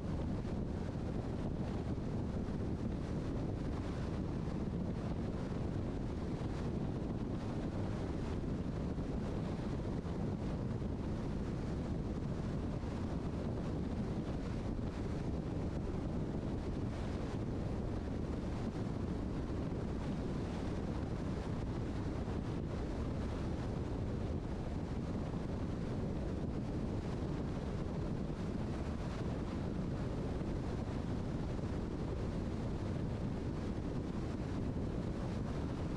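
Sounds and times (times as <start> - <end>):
car road and wind noise: 0.0 - 35.9.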